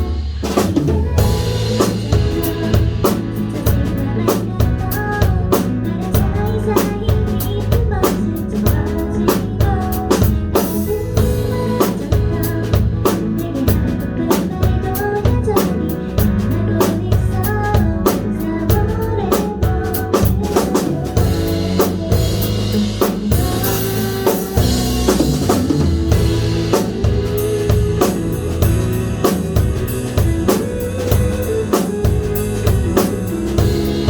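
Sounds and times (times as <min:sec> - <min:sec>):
drum kit beat: 0:00.0 - 0:34.0
live band instrumental music: 0:00.0 - 0:34.0.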